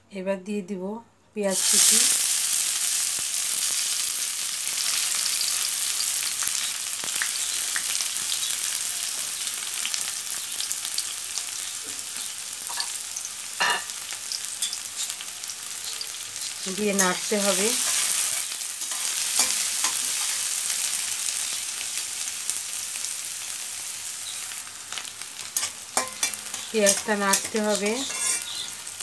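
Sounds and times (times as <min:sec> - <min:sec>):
onions sizzling in hot oil: 0:01.5 - 0:29.0.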